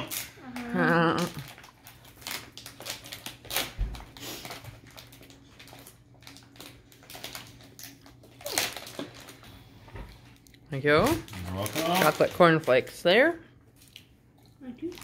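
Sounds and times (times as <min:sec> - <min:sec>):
low steady hum: 0:00.0 - 0:15.0
plastic wrapper crinkling: 0:00.0 - 0:15.0.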